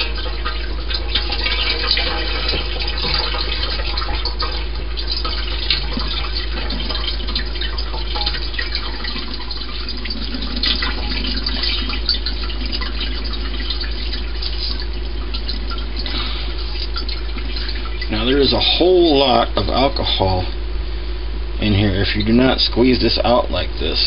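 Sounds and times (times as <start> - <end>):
faucet water running into sink: 0.0 - 20.4.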